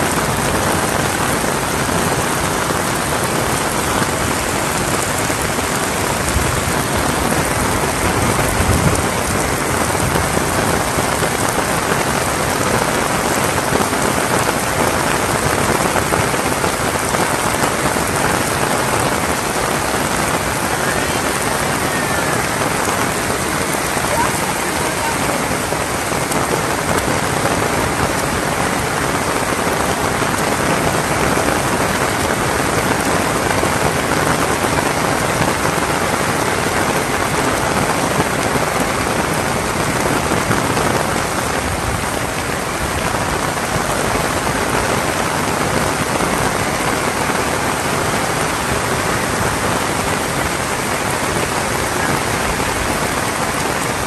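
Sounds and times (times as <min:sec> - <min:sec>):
heavy rain on metal roofs: 0:00.0 - 0:54.0.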